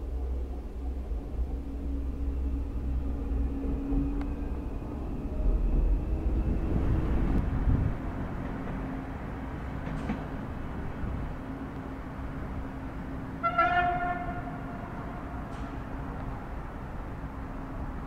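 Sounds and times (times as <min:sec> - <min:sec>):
train wheels rumbling on tracks: 0:00.0 - 0:18.0.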